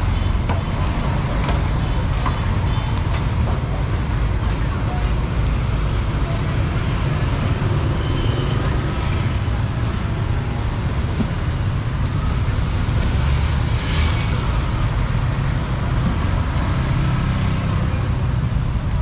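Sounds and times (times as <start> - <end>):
car engines passing: 0.0 - 19.0
street traffic: 0.0 - 19.0.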